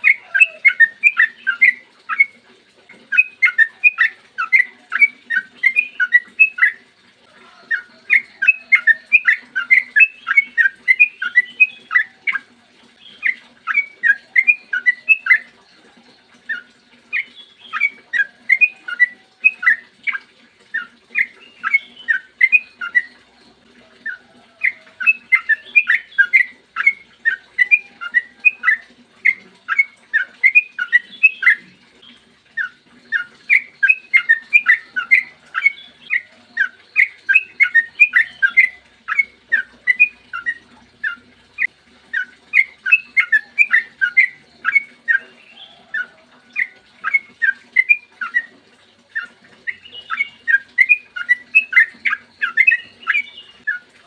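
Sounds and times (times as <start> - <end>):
bird singing whistled notes: 0.0 - 2.4, 3.1 - 6.8, 7.7 - 12.4, 13.0 - 15.5, 16.5 - 23.2, 24.0 - 31.7, 32.6 - 48.5, 49.2 - 53.8.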